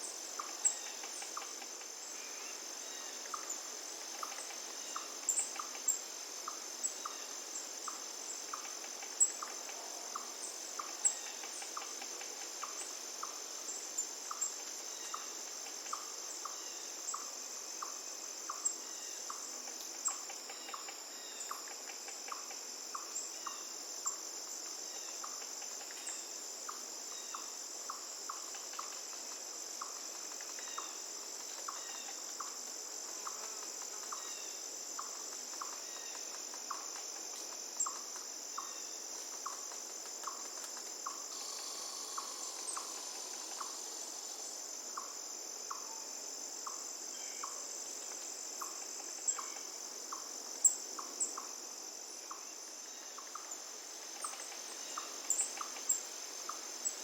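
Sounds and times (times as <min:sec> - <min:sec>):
faint background noise: 0:00.0 - 0:57.0
insects droning: 0:00.0 - 0:57.0
short insect chirps: 0:00.0 - 0:57.0.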